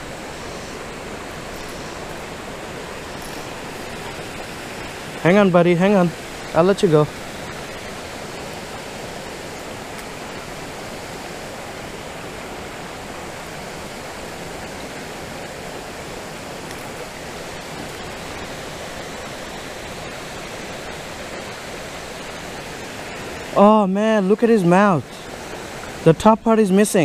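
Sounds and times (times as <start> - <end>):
creek water over rocks: 0.0 - 27.0.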